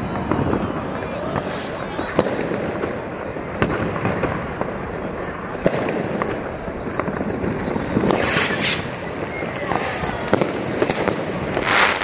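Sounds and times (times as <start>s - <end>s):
firecrackers crackling: 0.0s - 12.0s
loud firework bangs: 0.0s - 12.0s.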